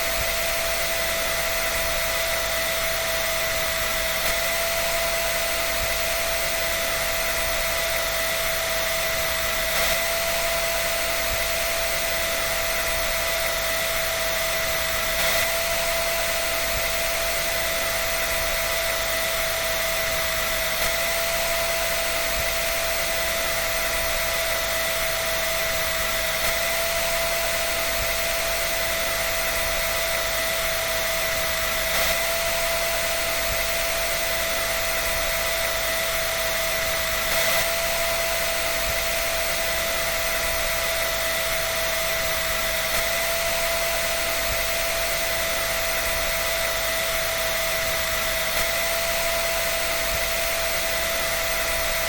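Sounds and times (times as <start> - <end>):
dryer running: 0.0 - 52.0.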